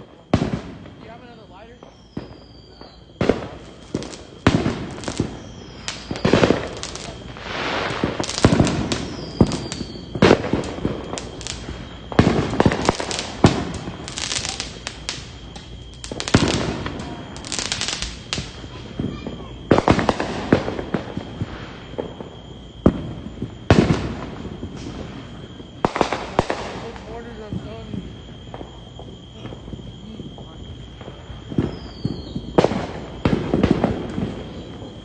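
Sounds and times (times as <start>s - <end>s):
firecracker cracks: 0.0s - 29.8s
falling firework whistles: 0.0s - 35.0s
fireworks bangs: 0.0s - 35.0s.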